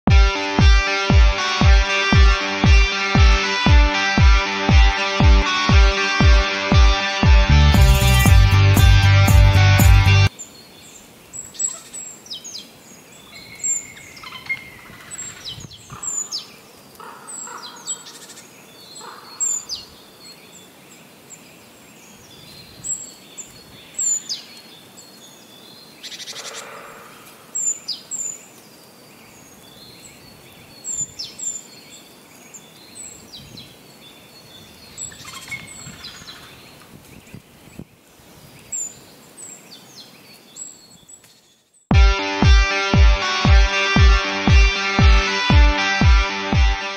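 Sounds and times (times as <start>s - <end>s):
faint outdoor background: 0.0s - 46.9s
birds chirping: 7.6s - 46.9s.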